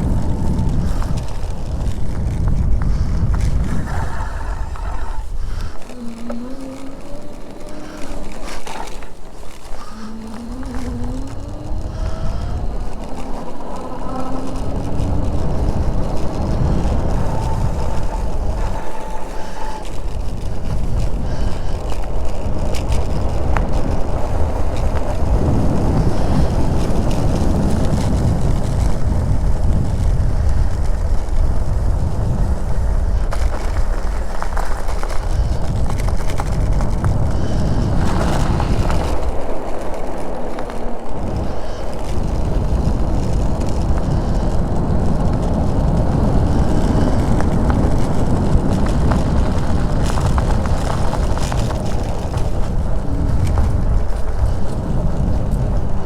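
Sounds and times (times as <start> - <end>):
faint clicks from bike: 0.0 - 56.0
wind buffeting microphone: 0.0 - 56.0.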